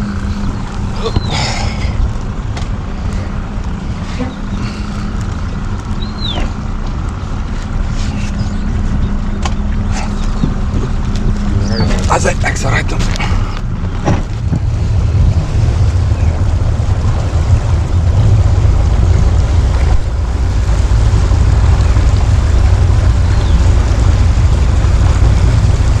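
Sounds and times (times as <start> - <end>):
outboard motors rumbling: 0.0 - 26.0
wind on microphone: 0.0 - 26.0.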